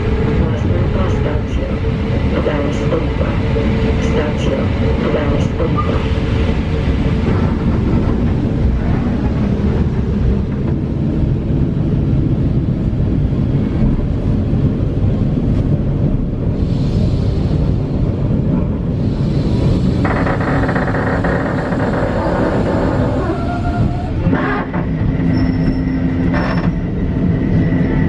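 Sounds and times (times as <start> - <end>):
train rumble inside carriage: 0.0 - 28.0.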